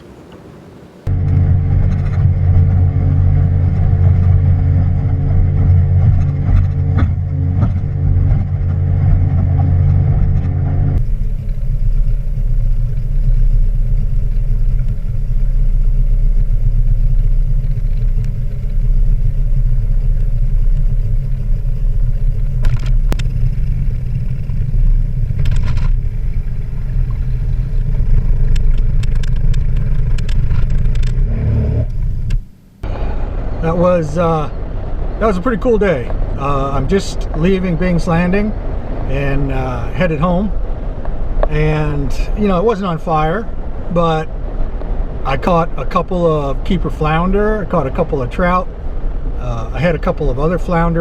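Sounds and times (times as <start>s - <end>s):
motor vehicle engine rumbling: 0.0s - 51.0s.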